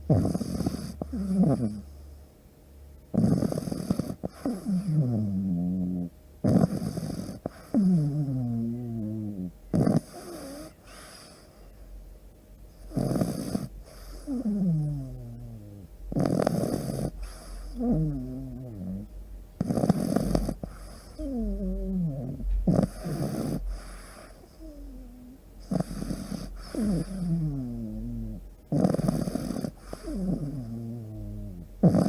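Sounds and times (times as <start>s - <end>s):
dog snoring: 0.0s - 2.0s, 3.1s - 11.6s, 12.7s - 32.0s.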